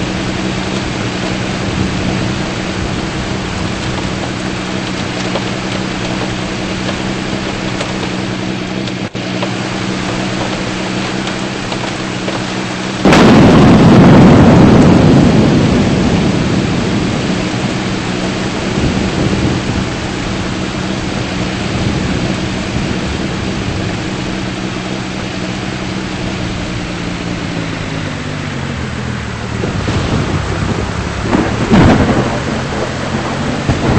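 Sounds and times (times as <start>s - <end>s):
steady rain: 0.0s - 33.9s
thunderclap and rumble: 0.0s - 33.9s.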